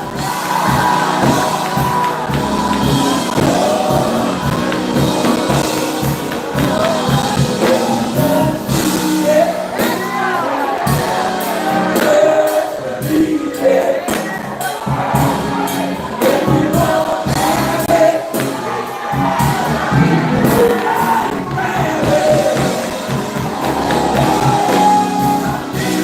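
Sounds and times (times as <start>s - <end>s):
live gospel music: 0.0s - 26.0s.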